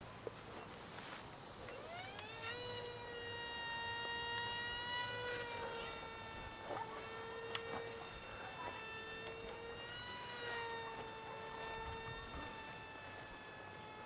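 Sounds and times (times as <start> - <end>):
toy plane electric motor whine: 0.0 - 14.0.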